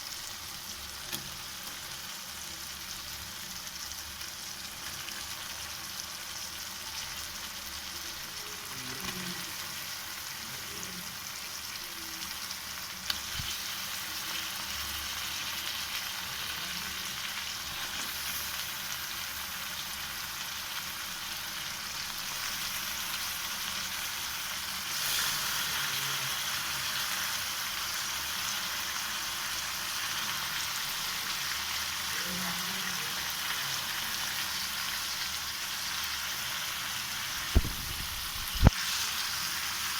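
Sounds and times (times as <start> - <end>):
food sizzling in oil: 0.0 - 39.9.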